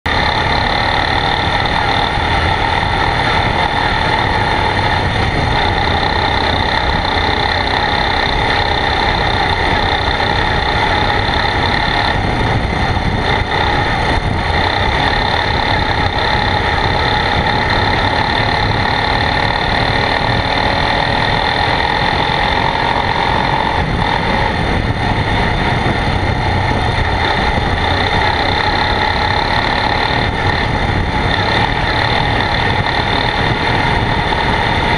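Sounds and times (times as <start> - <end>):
quad bike engine running: 0.0 - 34.9.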